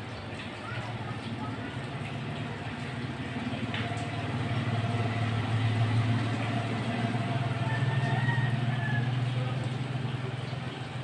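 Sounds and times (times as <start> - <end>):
engine idling drone: 1.9 - 11.0.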